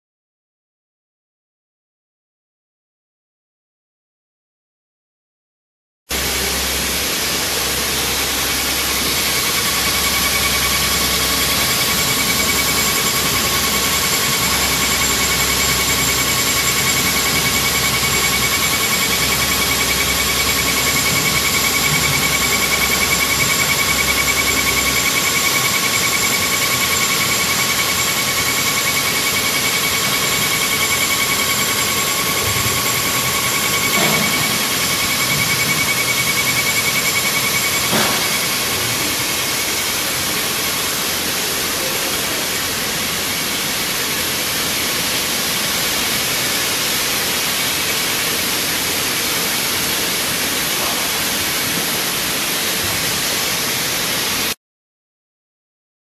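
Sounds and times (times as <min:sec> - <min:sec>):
milling machine cutting metal: 0:06.1 - 0:54.5.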